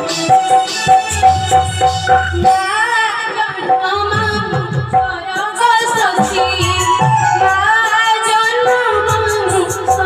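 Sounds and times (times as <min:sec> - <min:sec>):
drum beats: 0:00.0 - 0:10.0.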